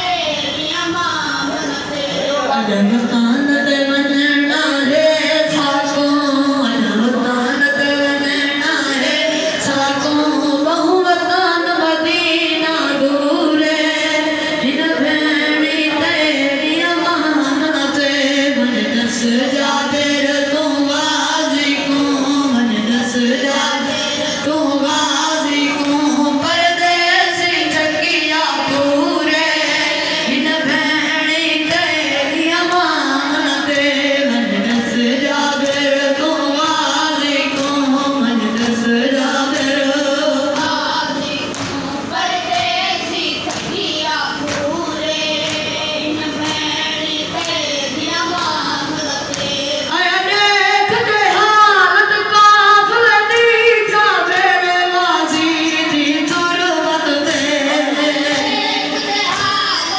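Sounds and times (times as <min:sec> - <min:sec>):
rhythmic chest-beating: 0:00.1 - 0:59.9
voices singing a lament: 0:02.6 - 0:59.9.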